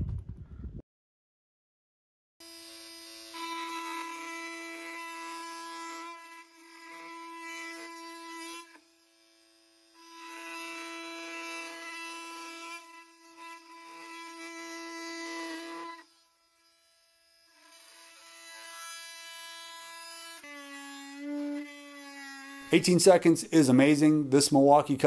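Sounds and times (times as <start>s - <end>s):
multi-tool cutting wood buzzing: 2.4s - 23.8s.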